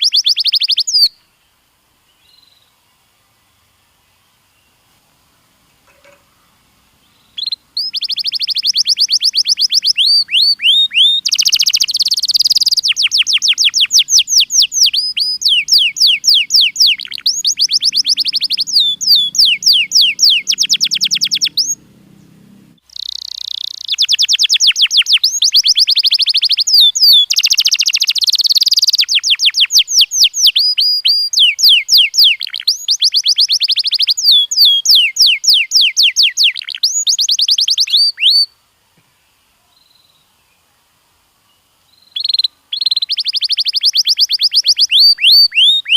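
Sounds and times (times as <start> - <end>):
canary singing trills: 0.0 - 1.3, 5.4 - 38.5, 41.5 - 45.9.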